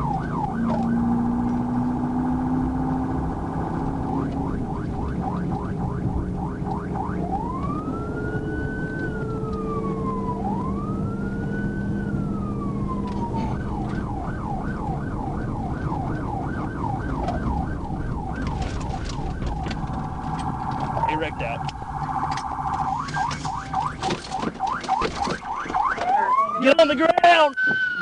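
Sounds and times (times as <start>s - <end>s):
police siren yelping and wailing: 0.0s - 28.0s
road and engine noise: 0.0s - 28.0s.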